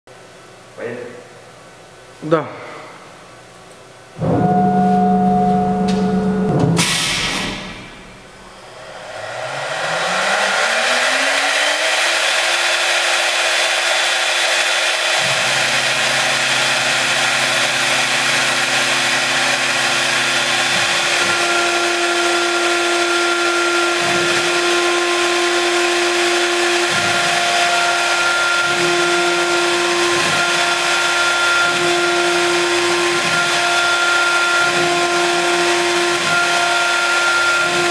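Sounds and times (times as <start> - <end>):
axis motors humming: 4.1 - 37.9
router spindle whine: 7.3 - 37.9.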